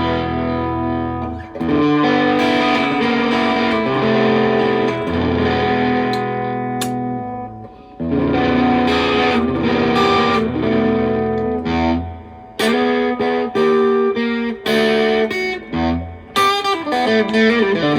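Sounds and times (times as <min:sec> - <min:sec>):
distorted electric guitar chords: 0:00.0 - 0:17.9.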